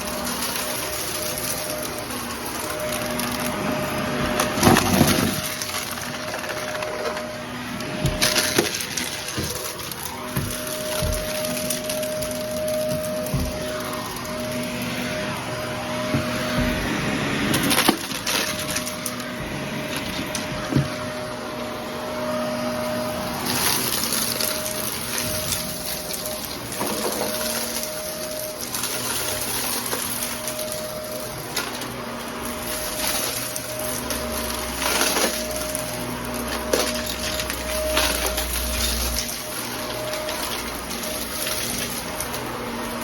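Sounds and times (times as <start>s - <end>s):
vacuum cleaner motor hum: 0.0s - 43.0s.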